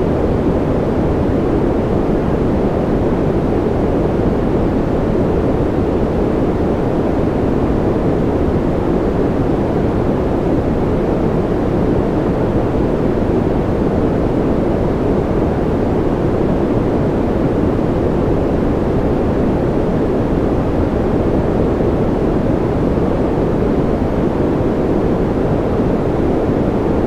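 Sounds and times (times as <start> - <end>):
white noise hiss: 0.0 - 27.0.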